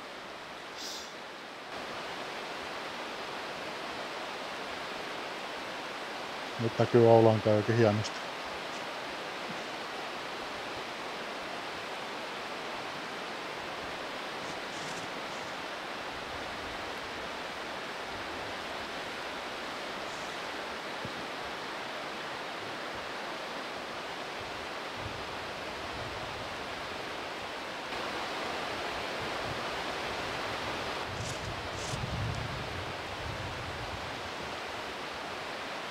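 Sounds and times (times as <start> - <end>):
rushing white water rapids: 0.0 - 35.9.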